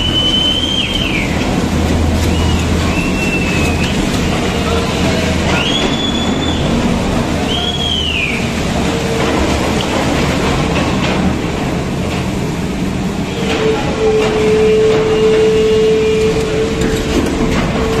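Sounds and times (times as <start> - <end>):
excavator engine under load: 0.0 - 18.0.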